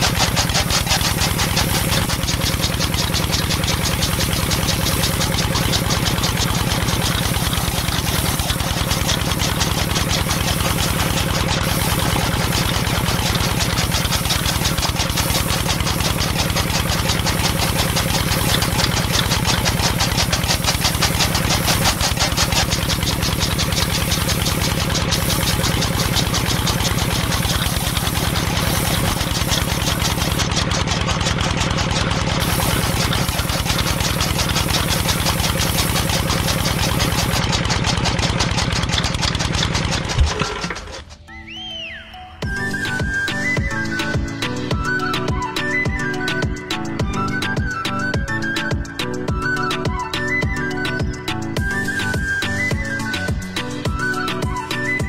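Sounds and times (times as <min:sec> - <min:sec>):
small thresher motor chattering: 0:00.0 - 0:41.3, 0:42.4 - 0:55.0.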